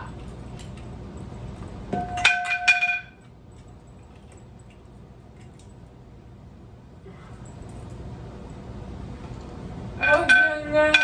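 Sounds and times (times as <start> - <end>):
metal clinking: 0.1 - 6.0, 7.2 - 11.0.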